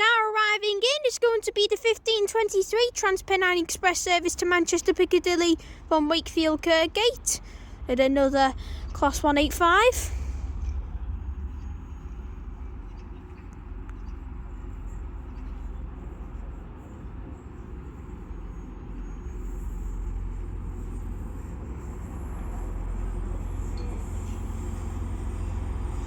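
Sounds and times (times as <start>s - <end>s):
diesel train rumble: 0.0s - 26.0s.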